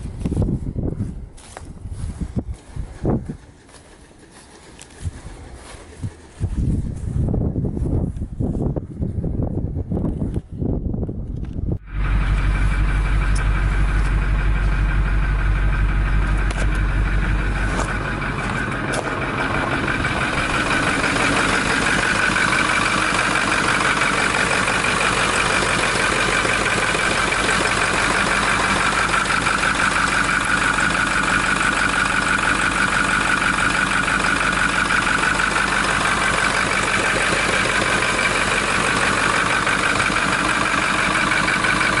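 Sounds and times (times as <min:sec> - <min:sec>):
diesel engine idling: 0:00.0 - 0:08.2, 0:11.7 - 0:42.0
high engine whine: 0:00.0 - 0:42.0.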